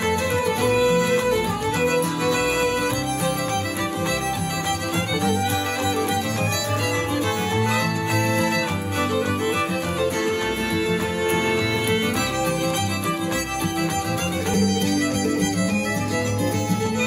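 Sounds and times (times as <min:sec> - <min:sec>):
violin music through speaker: 0:00.0 - 0:17.0.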